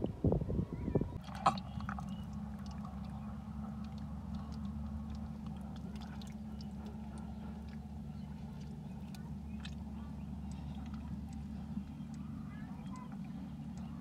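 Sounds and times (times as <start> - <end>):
steady low hum: 0.0 - 14.0
wet clicks and squelches in mud: 1.2 - 14.0.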